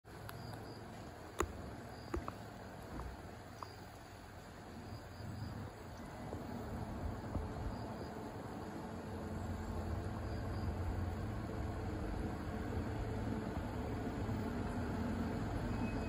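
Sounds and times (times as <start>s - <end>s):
low rumble and hiss: 0.1s - 16.0s.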